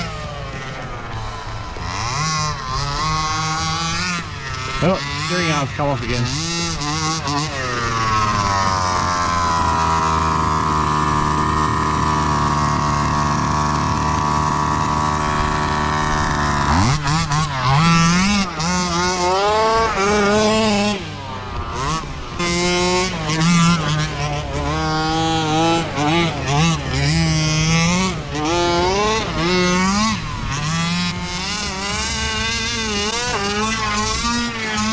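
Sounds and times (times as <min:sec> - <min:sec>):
small two-stroke engine revving: 0:00.0 - 0:34.9.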